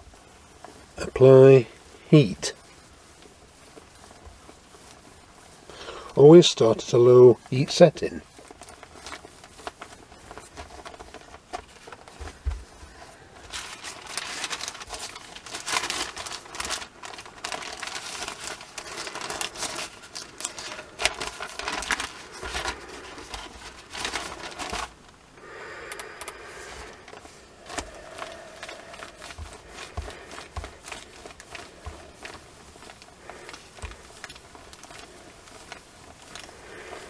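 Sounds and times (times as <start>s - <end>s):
iron sliding over paper: 0.0s - 37.0s
newspaper rustling and crinkling: 0.0s - 37.0s.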